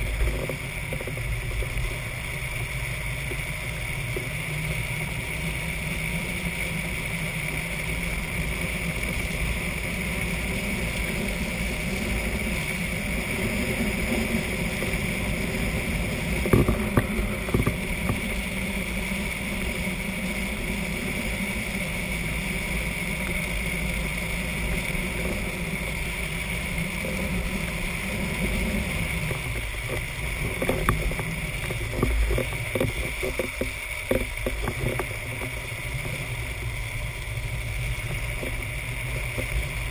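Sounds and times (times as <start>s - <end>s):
wheels rumbling on road: 0.0s - 39.9s
wind on microphone: 7.7s - 39.9s.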